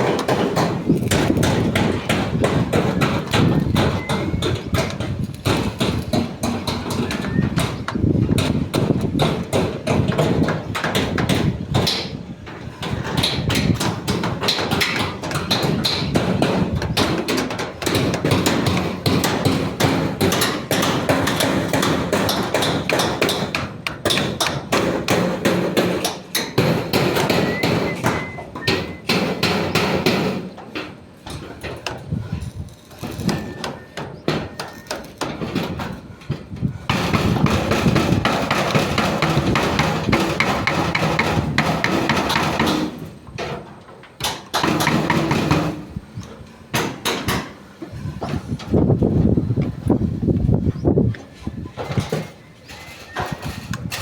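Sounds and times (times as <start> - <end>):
hammer blows: 0.0 - 43.6.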